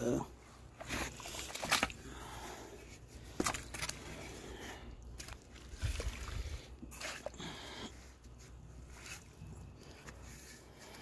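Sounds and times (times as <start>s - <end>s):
mud squelching: 0.1s - 11.0s.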